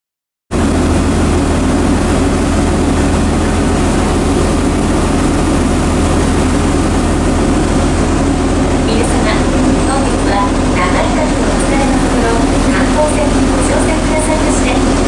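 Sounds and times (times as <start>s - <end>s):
boat engine droning: 0.5s - 15.0s
wind and water rushing: 0.6s - 15.0s.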